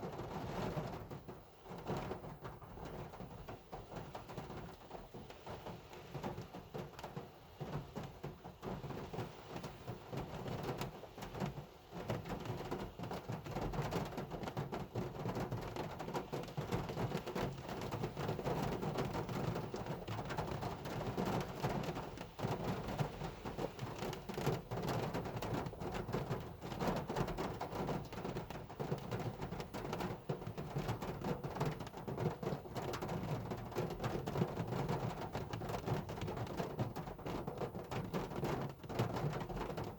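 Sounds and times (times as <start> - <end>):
heavy rain drumming on a car: 0.0 - 39.9.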